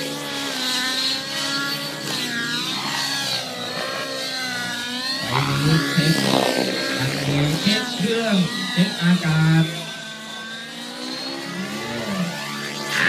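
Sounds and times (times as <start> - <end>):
model helicopter engine and rotor whine: 0.0 - 13.0.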